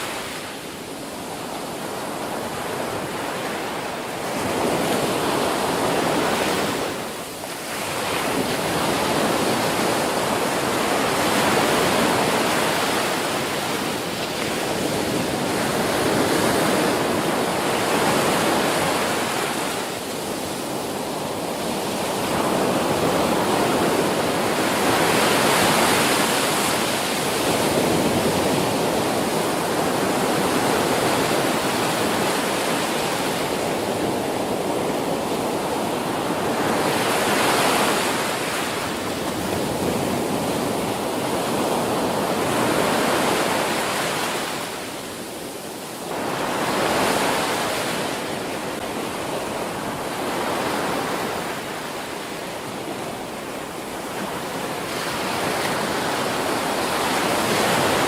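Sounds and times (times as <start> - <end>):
ocean waves breaking on a beach: 0.0 - 58.0.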